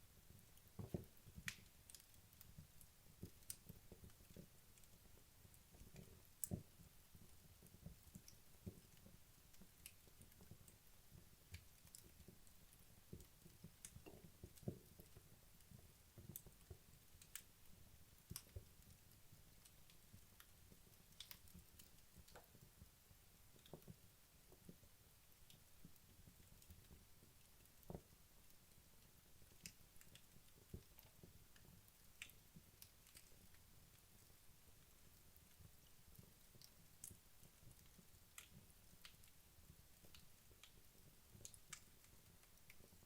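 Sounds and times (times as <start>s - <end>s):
logs crackling and popping: 0.2s - 43.0s.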